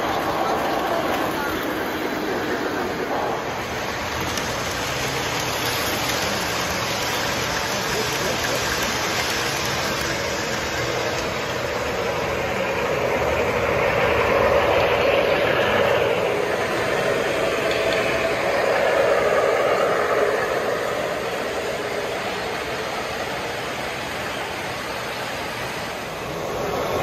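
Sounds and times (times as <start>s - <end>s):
model trains rumbling: 0.0s - 27.0s.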